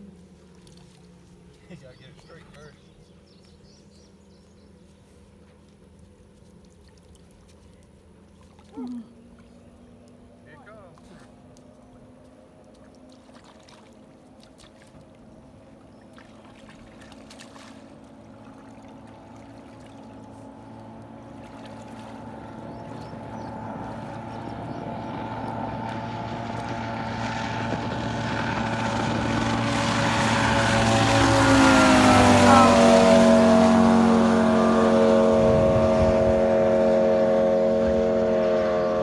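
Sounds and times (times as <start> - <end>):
boat outboard engine at speed: 0.0 - 39.0.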